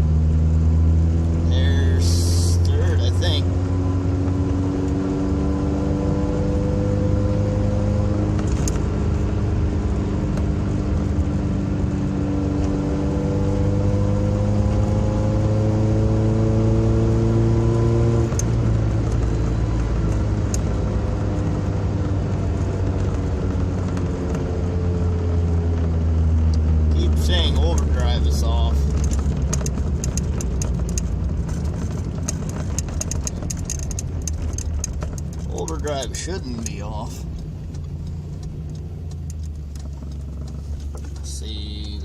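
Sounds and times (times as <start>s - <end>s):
truck engine accelerating: 0.0s - 42.0s.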